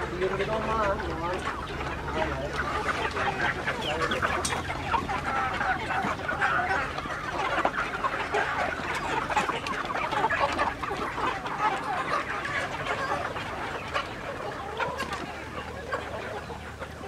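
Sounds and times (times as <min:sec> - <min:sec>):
flock of chickens clucking: 0:00.0 - 0:17.0.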